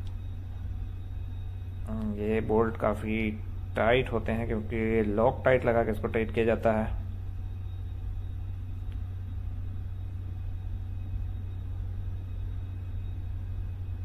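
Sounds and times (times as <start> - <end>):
low machinery rumble: 0.0 - 14.0.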